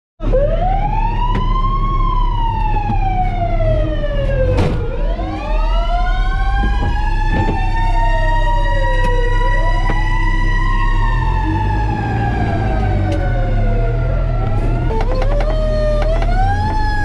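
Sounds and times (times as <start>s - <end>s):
fire truck siren wailing: 0.2s - 17.0s
low engine rumble: 0.2s - 17.0s
steady siren tone: 0.2s - 17.0s.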